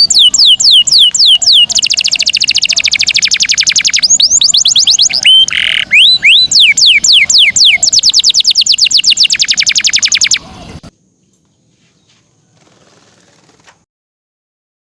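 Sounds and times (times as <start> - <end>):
canary singing: 0.0 - 13.6.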